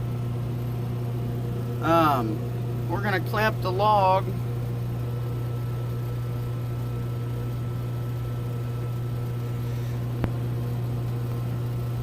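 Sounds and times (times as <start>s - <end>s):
sawmill machinery humming: 0.0s - 12.0s.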